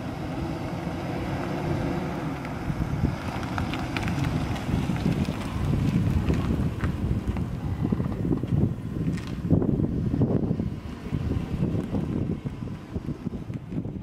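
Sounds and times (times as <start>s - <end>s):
pickup truck engine: 0.0s - 14.0s
tyres rolling on asphalt: 0.0s - 14.0s
wind buffeting microphone: 0.0s - 14.0s.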